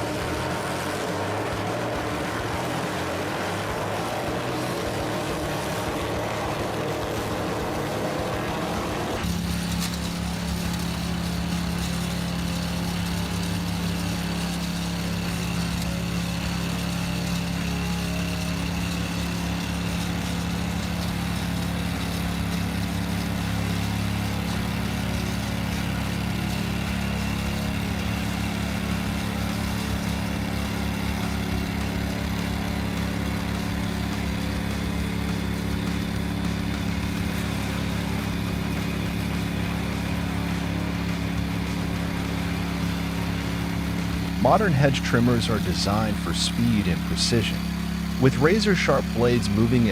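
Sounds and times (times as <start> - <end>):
engine humming with low throb: 0.0 - 49.9.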